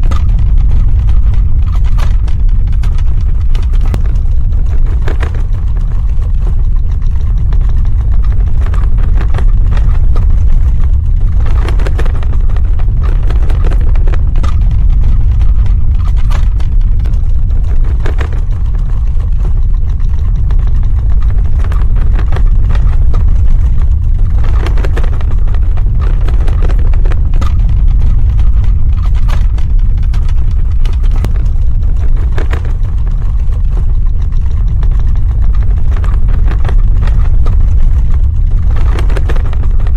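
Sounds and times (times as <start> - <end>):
crackling and rattling: 0.0 - 39.9
deep earthquake rumble: 0.0 - 39.9.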